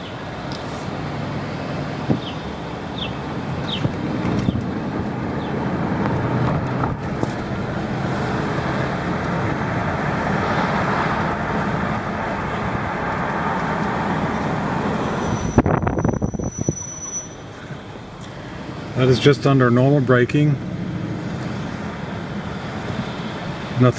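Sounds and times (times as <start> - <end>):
car road and tyre noise: 0.0 - 23.9.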